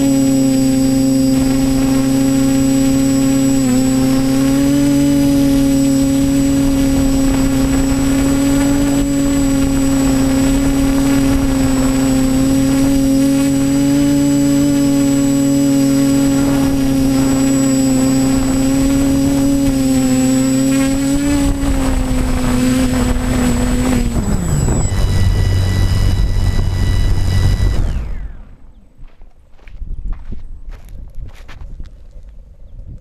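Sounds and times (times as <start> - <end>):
quadcopter motors buzzing: 0.0 - 29.2.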